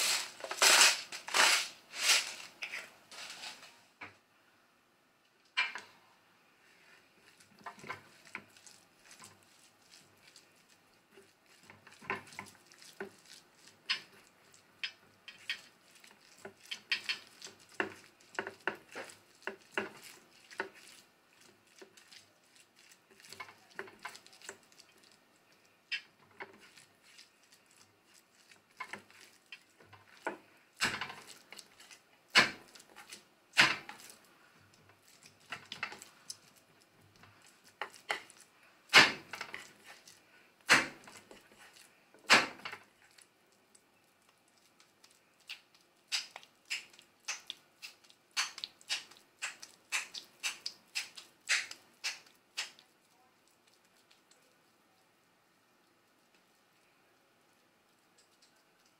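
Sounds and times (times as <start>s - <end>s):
hand squishing raw meat: 7.2s - 42.0s, 42.8s - 58.9s.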